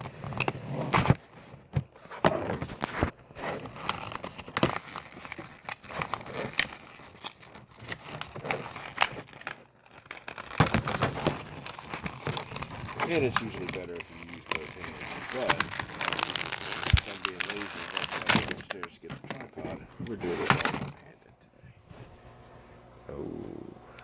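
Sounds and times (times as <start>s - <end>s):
plastic packaging crinkling: 0.0s - 21.2s.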